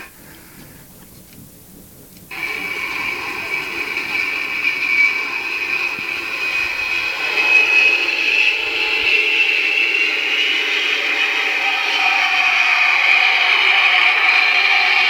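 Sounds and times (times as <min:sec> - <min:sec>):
jet engine noise: 0:00.0 - 0:15.0
high-pitched jet howl: 0:02.3 - 0:15.0.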